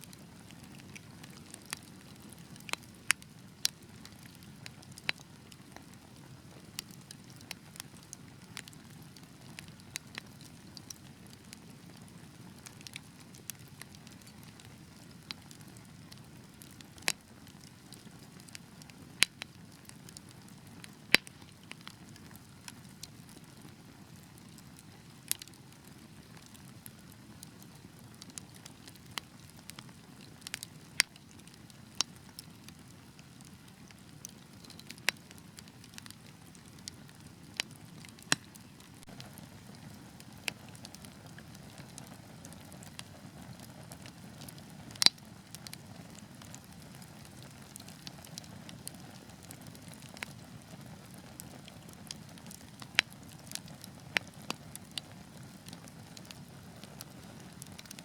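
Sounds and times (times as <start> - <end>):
wood fire hiss and rumble: 0.0 - 58.0
logs popping and crackling: 0.2 - 58.0.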